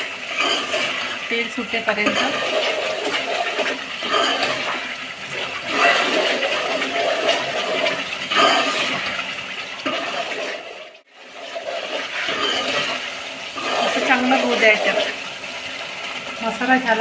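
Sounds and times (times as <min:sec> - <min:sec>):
paste sizzling in oil: 0:00.0 - 0:17.0.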